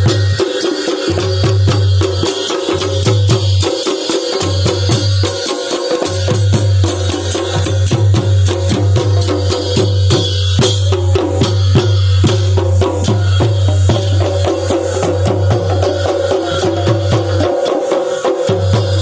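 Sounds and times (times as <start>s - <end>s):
kettle drum and percussion beat: 0.0s - 19.0s.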